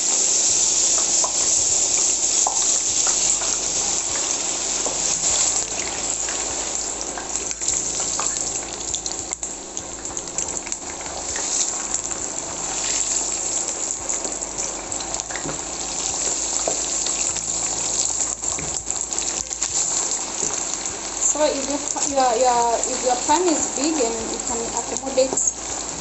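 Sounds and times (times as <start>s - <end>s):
potatoes sizzling in hot oil: 0.0s - 26.0s.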